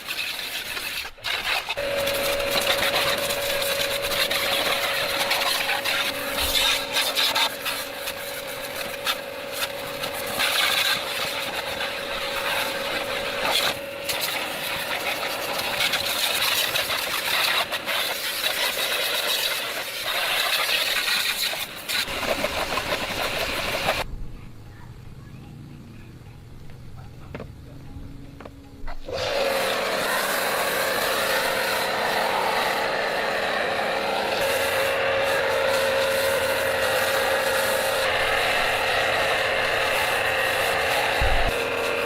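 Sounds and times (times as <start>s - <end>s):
small motor running: 0.2s - 24.1s, 29.0s - 42.0s.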